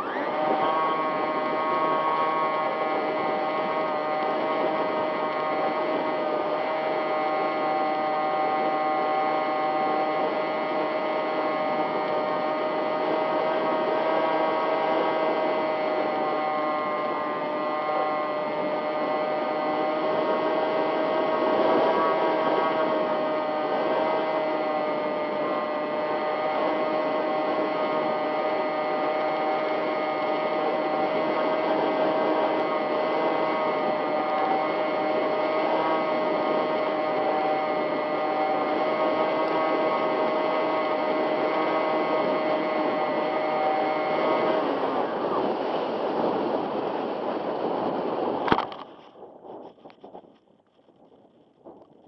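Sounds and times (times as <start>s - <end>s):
model plane motor whining: 0.0s - 50.0s.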